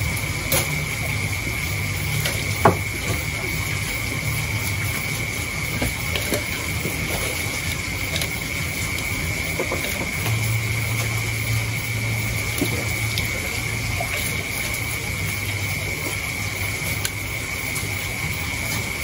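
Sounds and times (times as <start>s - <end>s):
low hum: 0.0s - 19.0s
rushing water-like noise: 0.0s - 19.0s
rustling of wet leaves: 0.0s - 19.0s.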